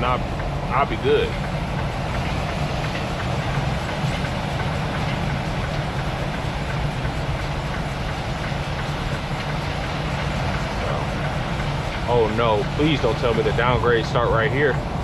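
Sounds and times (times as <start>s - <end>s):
diesel engine hum: 0.0s - 15.0s
road noise: 0.0s - 15.0s.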